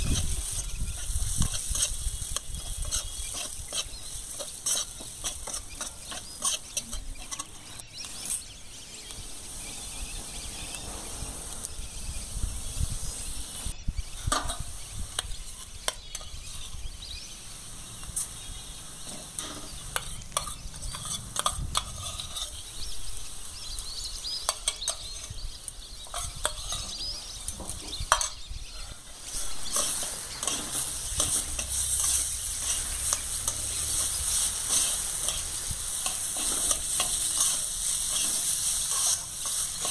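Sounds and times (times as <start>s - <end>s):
dry lentils rustling in a pan: 0.0s - 39.9s.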